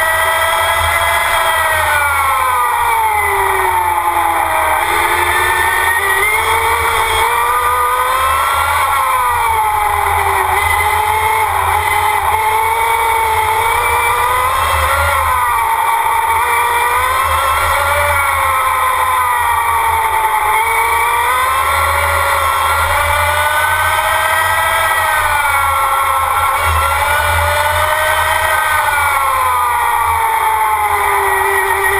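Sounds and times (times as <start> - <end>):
electric motor whining: 0.0 - 31.9.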